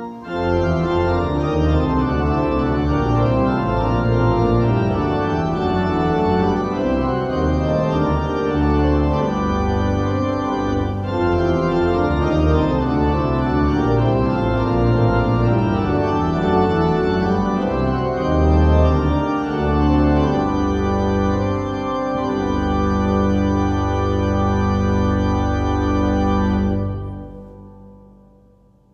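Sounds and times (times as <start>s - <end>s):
organ playing chords: 0.0s - 28.9s.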